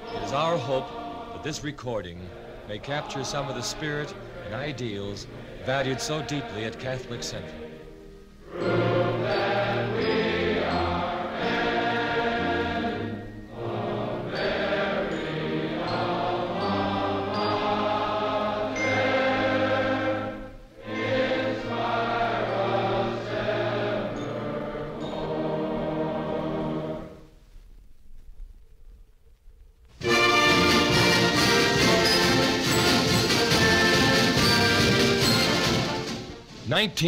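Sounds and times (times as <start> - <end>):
choir singing sustained chords: 0.0 - 27.3, 30.0 - 36.4.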